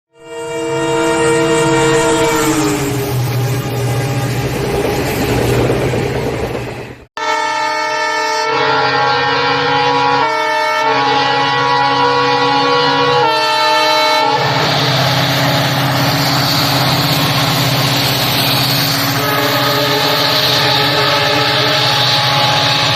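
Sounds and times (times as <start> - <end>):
locomotive two-tone horn: 0.1 - 4.6, 7.2 - 17.4, 18.3 - 22.9
train rumbling past: 0.2 - 8.0, 8.9 - 22.9.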